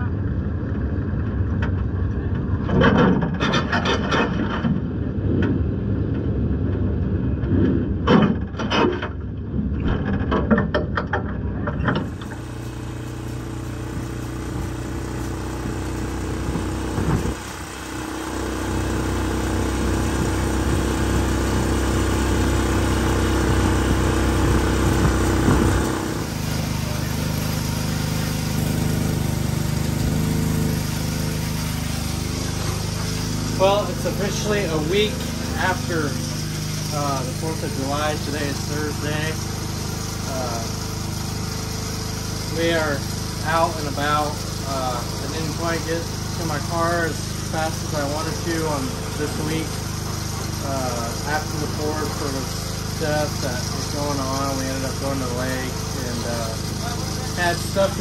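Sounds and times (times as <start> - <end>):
muffled vehicle: 0.0 - 58.0
atv engine running: 11.2 - 58.0.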